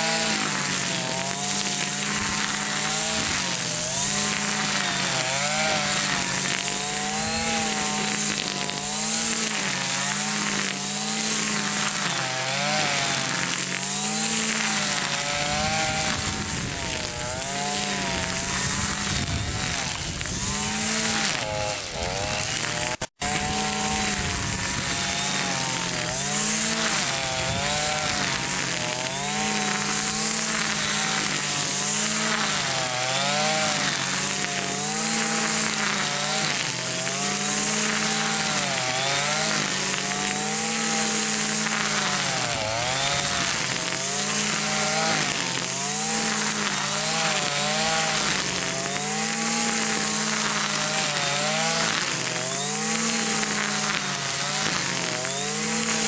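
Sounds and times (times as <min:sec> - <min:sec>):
string trimmer cutting grass: 0:00.0 - 0:56.0.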